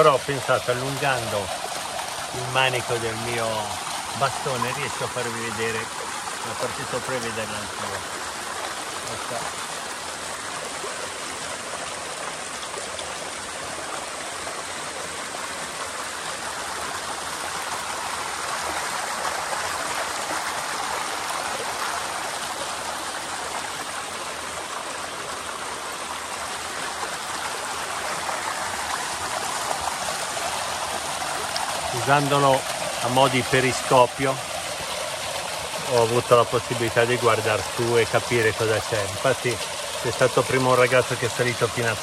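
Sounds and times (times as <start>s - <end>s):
torrent cascading over rocks: 0.0s - 42.0s.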